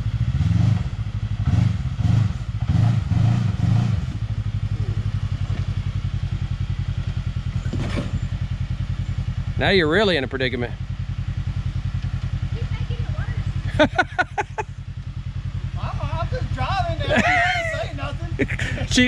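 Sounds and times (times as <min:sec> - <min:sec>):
utv engine revving and idling: 0:00.0 - 0:19.0.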